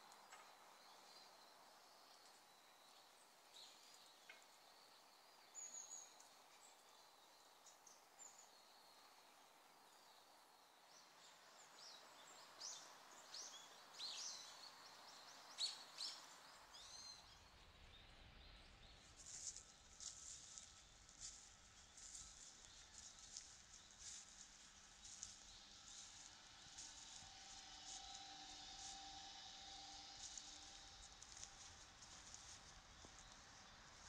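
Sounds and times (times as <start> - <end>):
small songbirds calling: 0.0 - 29.0.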